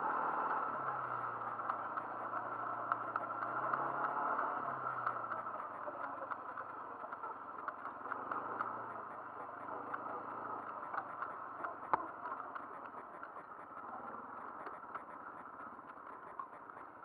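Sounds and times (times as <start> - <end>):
faint clicks: 0.0 - 17.0
quad bike engine running: 0.0 - 17.0.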